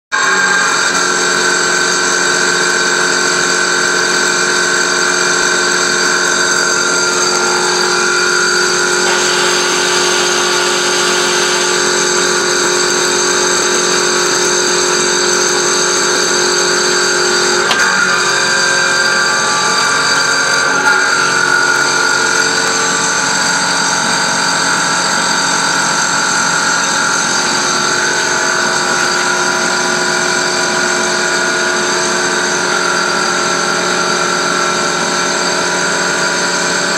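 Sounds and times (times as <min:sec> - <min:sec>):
metal cutting noise: 0:00.2 - 0:36.9
milling machine spindle whine: 0:00.2 - 0:36.9.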